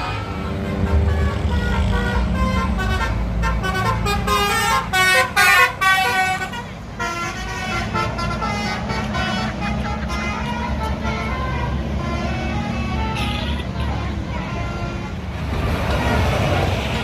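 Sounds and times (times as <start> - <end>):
bus horn playing a tune: 0.0 - 15.4
bus engine rumble: 0.0 - 17.0.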